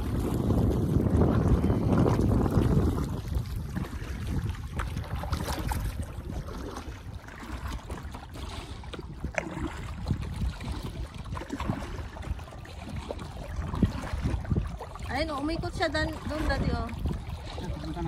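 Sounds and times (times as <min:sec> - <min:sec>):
kayak paddles splashing: 0:00.0 - 0:18.0
wind buffeting microphone: 0:00.0 - 0:18.0.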